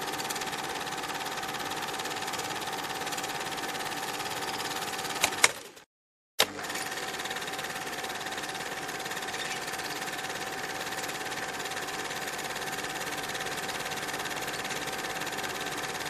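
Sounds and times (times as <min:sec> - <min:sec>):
mechanical whirr with rattle: 0:00.0 - 0:05.8, 0:06.4 - 0:16.0.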